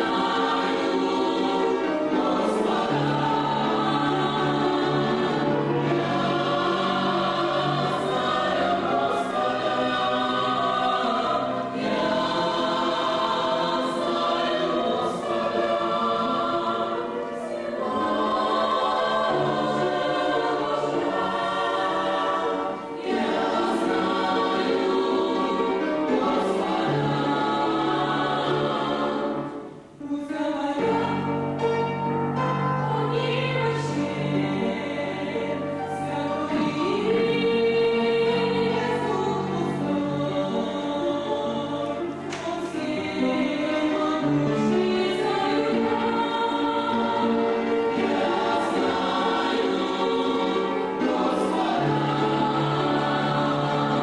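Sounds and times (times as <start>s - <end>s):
group singing a hymn in parts: 0.0s - 54.0s.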